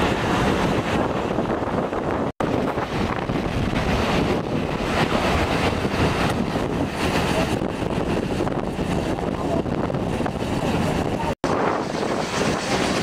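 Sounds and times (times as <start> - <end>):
train running with low rumble: 0.0 - 13.0
wind buffeting microphone: 0.0 - 13.0.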